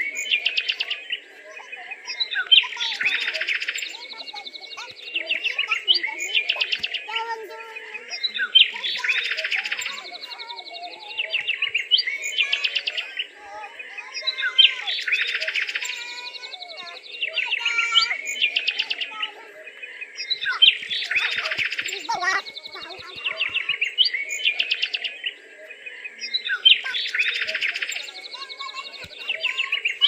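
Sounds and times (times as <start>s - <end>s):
rapid high bird chirps: 0.0s - 30.0s.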